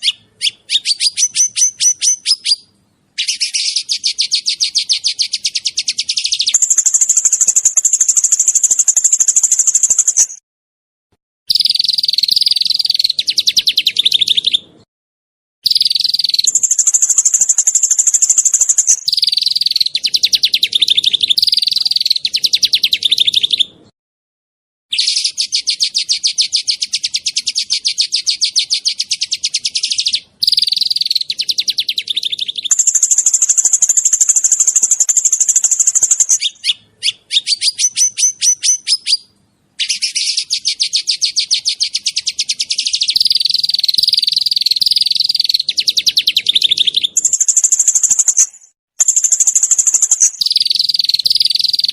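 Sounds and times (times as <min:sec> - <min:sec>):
songbird singing fast trills: 0:00.0 - 0:10.4, 0:11.5 - 0:14.7, 0:15.6 - 0:23.8, 0:24.9 - 0:51.9.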